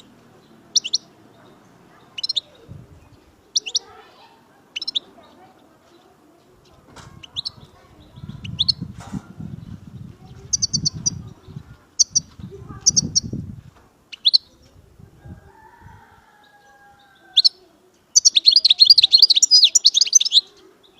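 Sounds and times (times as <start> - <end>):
bird chirps and trills: 0.0 - 13.4, 14.1 - 14.7, 16.5 - 20.9
fast twittering birdsong: 0.0 - 20.9.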